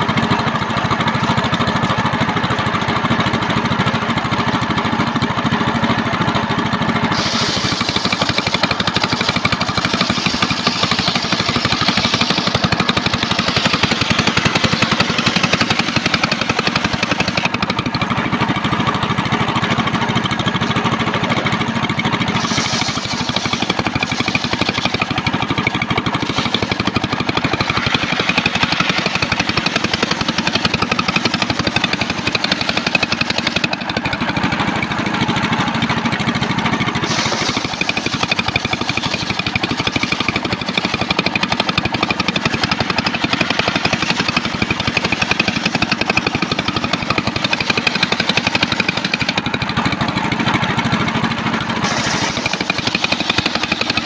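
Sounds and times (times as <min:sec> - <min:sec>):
circular saw cutting wood: 0:07.1 - 0:19.9, 0:21.2 - 0:51.0, 0:51.6 - 0:54.0.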